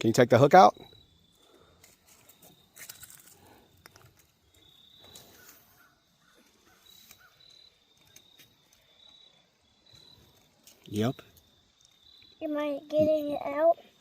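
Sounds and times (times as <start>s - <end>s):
high insect trill: 0.2s - 14.0s.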